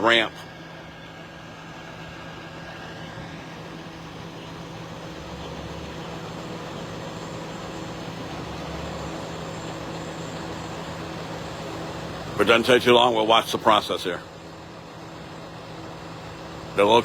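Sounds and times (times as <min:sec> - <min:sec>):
heavy truck engine humming: 0:00.0 - 0:17.0.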